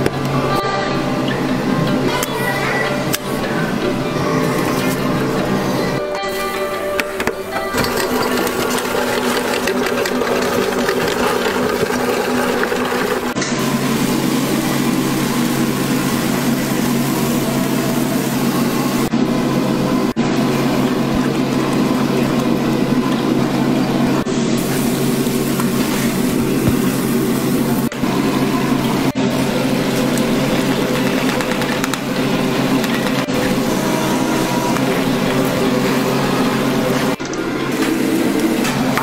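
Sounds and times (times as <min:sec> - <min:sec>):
motor humming: 0:00.0 - 0:39.0.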